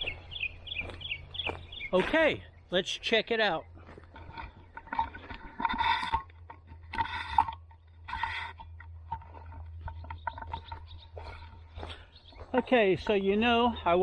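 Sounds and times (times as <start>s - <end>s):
footsteps crunching on dry ground: 0.0s - 14.0s.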